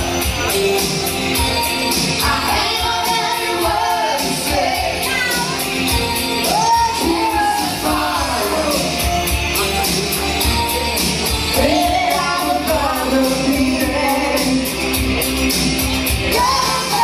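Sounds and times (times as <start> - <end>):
band playing with steady beat: 0.0 - 17.0
person singing: 2.1 - 15.0, 16.3 - 17.0.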